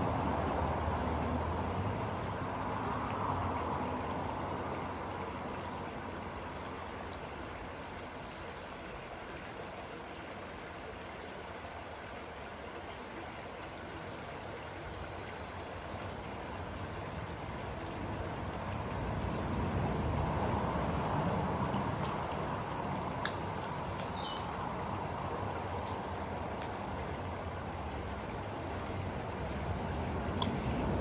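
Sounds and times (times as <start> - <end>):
creek water flowing: 0.0 - 31.0.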